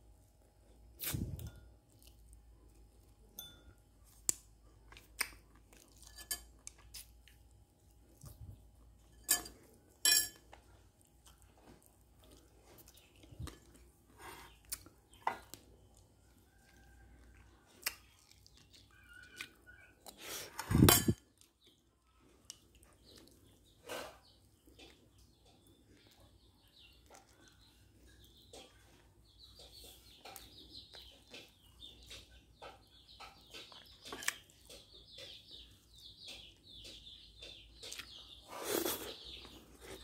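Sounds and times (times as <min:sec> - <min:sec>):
chewing: 0:01.4 - 0:03.2, 0:04.1 - 0:20.6, 0:21.3 - 0:40.0.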